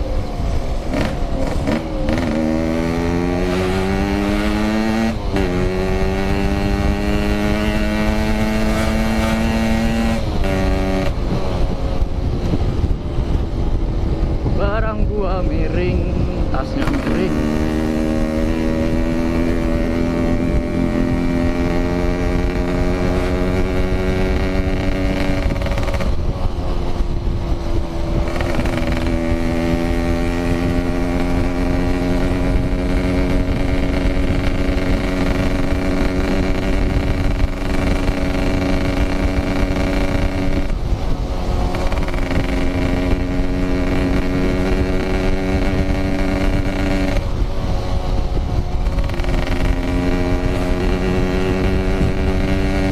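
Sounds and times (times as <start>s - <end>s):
low wind rumble: 0.0s - 52.9s
motorcycle engine under load: 0.0s - 52.9s.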